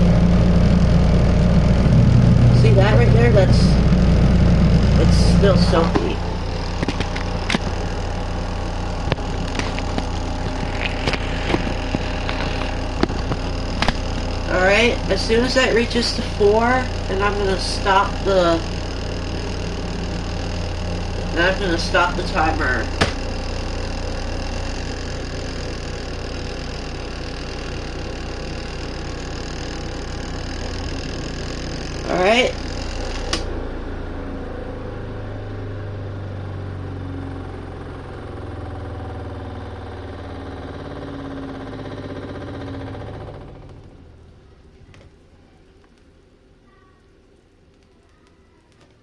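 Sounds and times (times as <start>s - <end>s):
washing machine spin motor: 0.0s - 49.0s.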